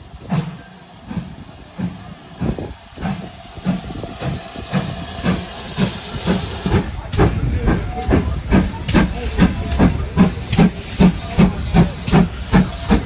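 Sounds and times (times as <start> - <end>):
steady hiss of steam: 0.0 - 13.0
steam locomotive chuffing: 0.0 - 13.0.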